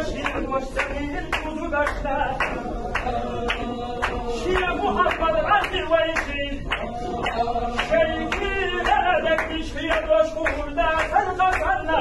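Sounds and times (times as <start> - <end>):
men chanting together: 0.0 - 12.0
rhythmic claps or stamping: 0.0 - 12.0.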